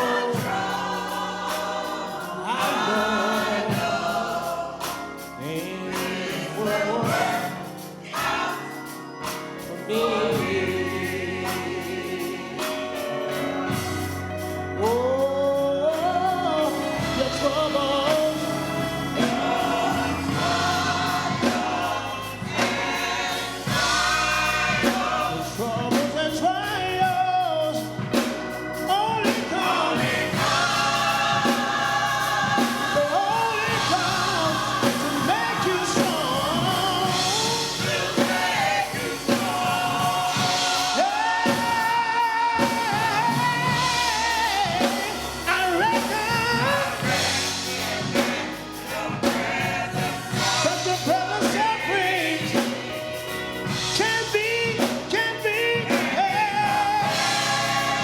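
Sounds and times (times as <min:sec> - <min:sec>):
gospel singers with band: 0:00.0 - 0:58.0.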